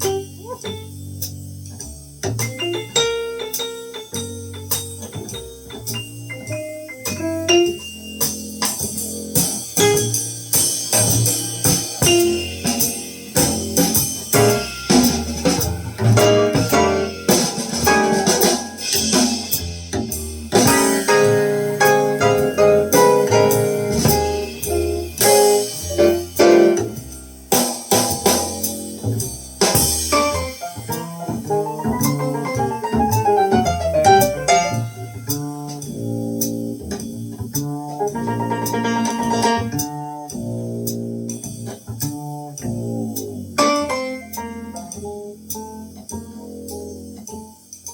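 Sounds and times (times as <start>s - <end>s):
jazz piano: 0.0s - 47.9s
low bass notes: 0.0s - 47.9s.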